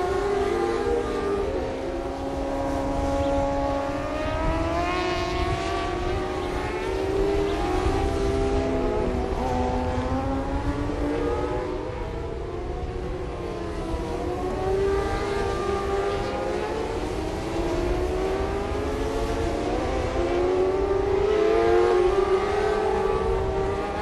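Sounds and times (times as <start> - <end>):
racing motorcycle engines revving: 0.0 - 24.0.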